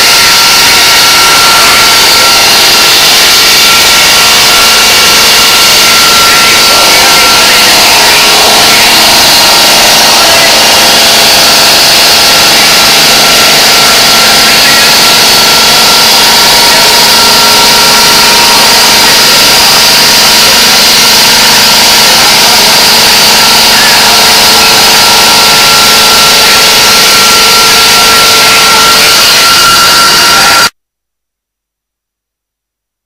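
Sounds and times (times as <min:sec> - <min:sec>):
stone saw cutting slab: 0:00.0 - 0:30.7.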